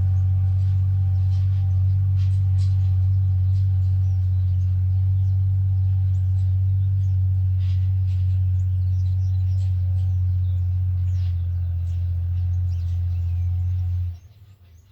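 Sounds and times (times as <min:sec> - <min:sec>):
tractor engine droning: 0:00.0 - 0:14.8
faint light ticks and chirps: 0:00.0 - 0:14.9.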